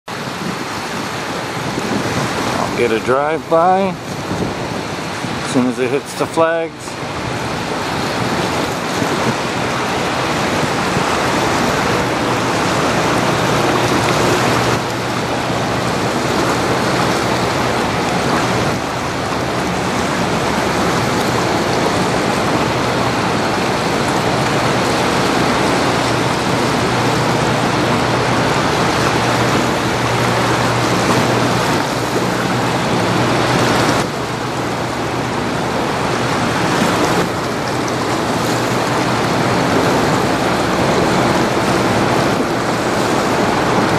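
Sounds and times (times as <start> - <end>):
water rushing along ship hull: 0.0 - 43.9
low ship engine drone: 0.1 - 43.9.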